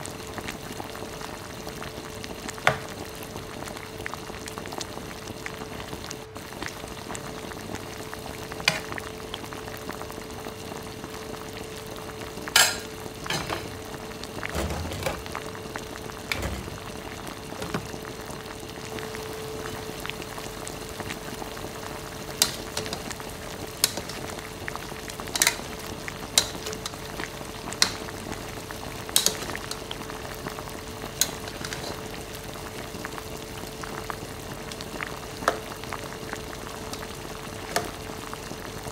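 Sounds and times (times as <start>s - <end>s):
chicken sizzling in a pan: 0.0s - 38.9s
faint hum: 1.0s - 38.9s.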